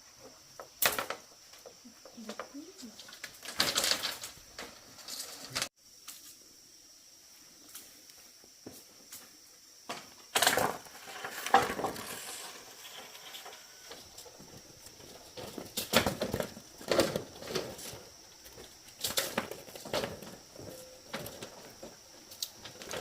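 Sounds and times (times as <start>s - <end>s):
objects clattering and knocking: 0.4s - 5.7s, 9.9s - 23.0s.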